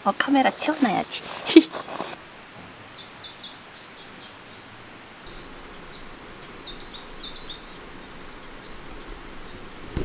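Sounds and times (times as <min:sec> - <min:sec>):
outdoor background hiss: 0:00.0 - 0:10.0
small birds chirping: 0:00.2 - 0:10.0.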